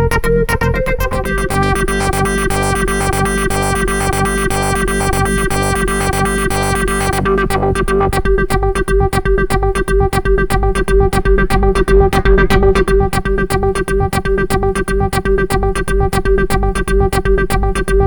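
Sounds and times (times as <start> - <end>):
pulsing synth bass: 0.0 - 18.0
synthesizer rhythmic pattern: 0.0 - 18.0.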